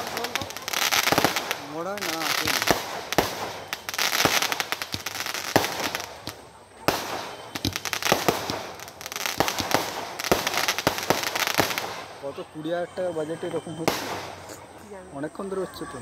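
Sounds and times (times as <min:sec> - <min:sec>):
fireworks crackling and popping: 0:00.0 - 0:12.7, 0:13.4 - 0:15.0.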